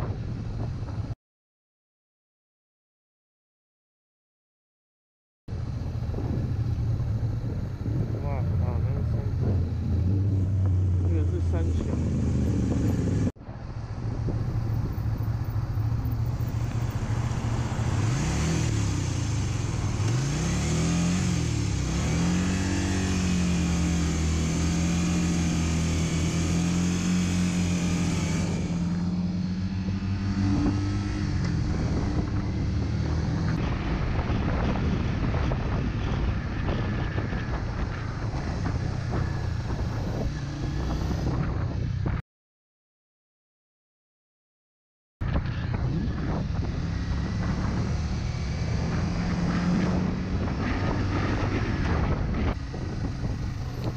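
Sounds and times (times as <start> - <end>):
motorcycle engine accelerating: 5.5 - 13.4, 14.0 - 42.2, 45.2 - 53.9.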